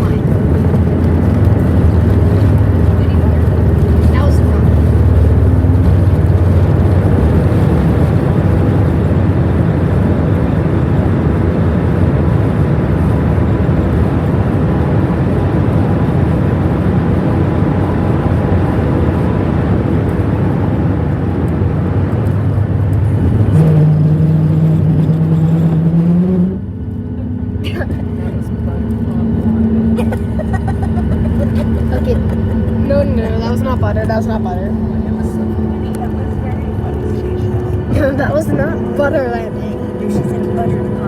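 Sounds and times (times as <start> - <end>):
jet engine roar in cabin: 0.0 - 41.0
low steady hum: 0.0 - 41.0.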